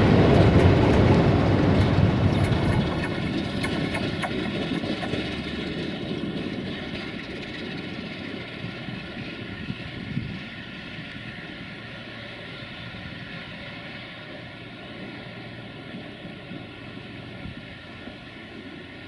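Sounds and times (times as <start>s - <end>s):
diesel locomotive engine drone: 0.0s - 19.0s
wheels clicking over rail joints: 0.0s - 19.0s.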